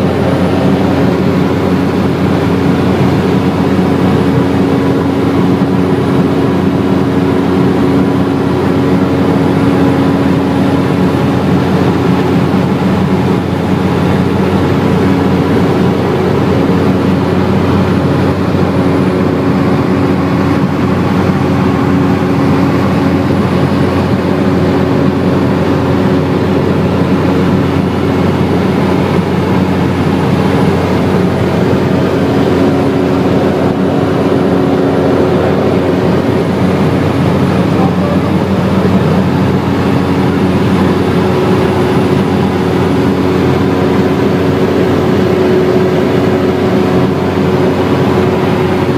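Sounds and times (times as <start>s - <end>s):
turboprop engine drone: 0.0s - 48.9s.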